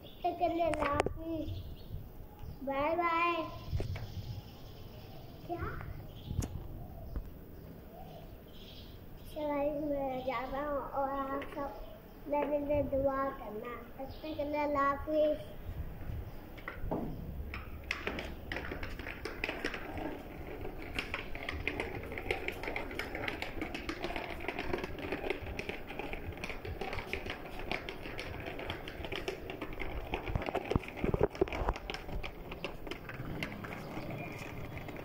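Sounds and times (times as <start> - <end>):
plastic wheels rattling over pavers: 0.0 - 1.9, 2.6 - 6.3, 7.6 - 35.0.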